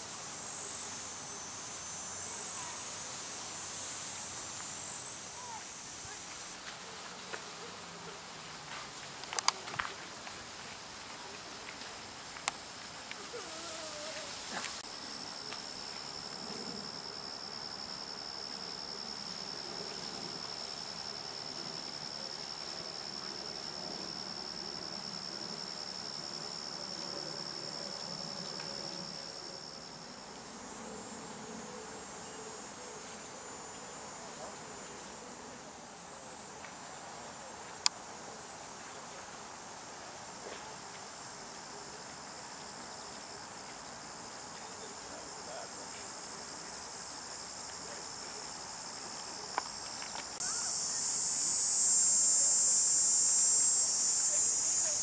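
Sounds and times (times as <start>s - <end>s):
insects trilling: 0.0s - 36.5s, 39.6s - 55.0s.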